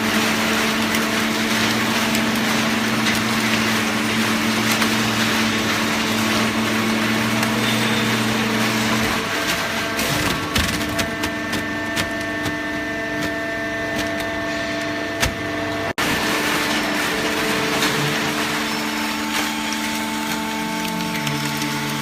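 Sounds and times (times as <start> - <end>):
baling press machine hum: 0.0 - 22.0.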